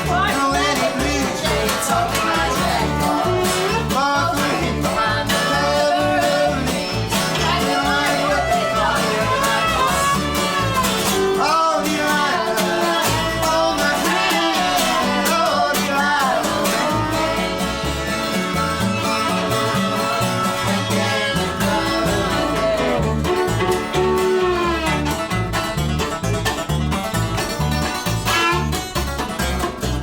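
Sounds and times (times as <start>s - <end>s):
bass: 0.0s - 30.0s
plucked guitar: 0.0s - 30.0s
bowed viola: 2.1s - 15.6s, 16.5s - 26.5s, 28.0s - 29.0s.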